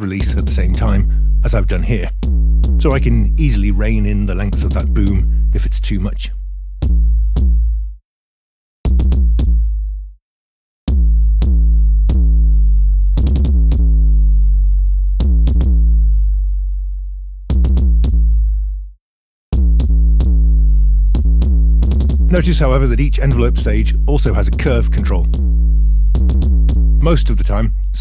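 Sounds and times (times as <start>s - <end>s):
synthesized kick drum: 0.0s - 8.0s, 8.9s - 10.2s, 10.9s - 16.6s, 17.5s - 18.8s, 19.5s - 28.0s.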